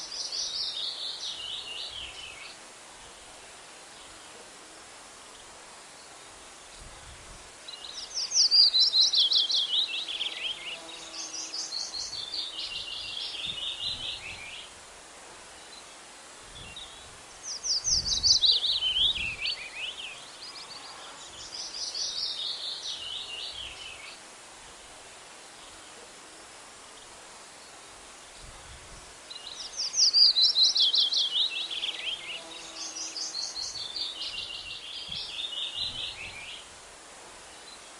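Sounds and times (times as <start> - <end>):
faint background hiss: 0.0 - 37.9.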